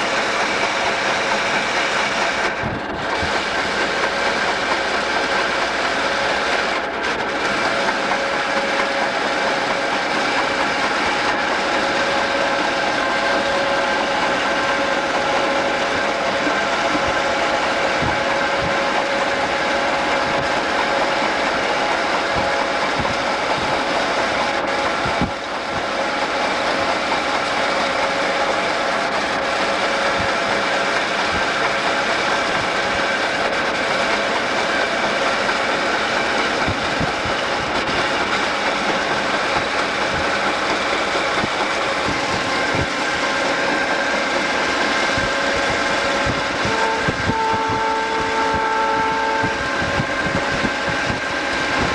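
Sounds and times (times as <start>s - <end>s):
diesel locomotive engine drone: 0.0s - 51.9s
rolling and road noise: 0.0s - 51.9s.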